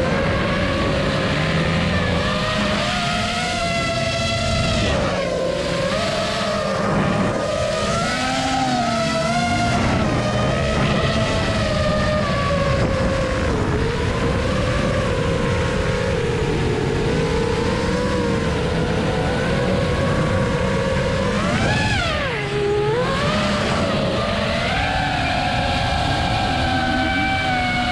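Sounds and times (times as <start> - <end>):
dirt bike engines: 0.0 - 27.9
drone motors whining: 0.0 - 27.9
wind rumble: 0.0 - 27.9.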